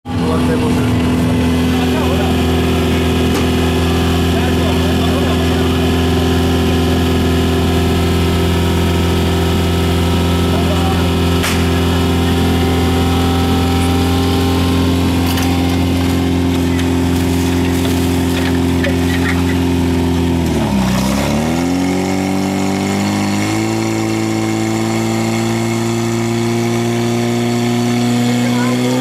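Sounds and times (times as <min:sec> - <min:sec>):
petrol pump engine running: 0:00.1 - 0:29.0.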